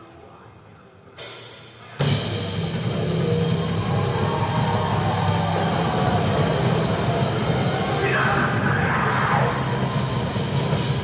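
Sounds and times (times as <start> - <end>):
live rock band playing loudly: 2.0 - 11.0.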